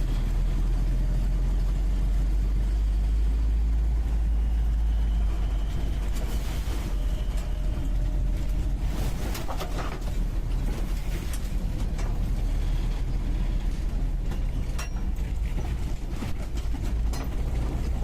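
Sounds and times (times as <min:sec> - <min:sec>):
car engine drone in cabin: 0:00.0 - 0:18.0.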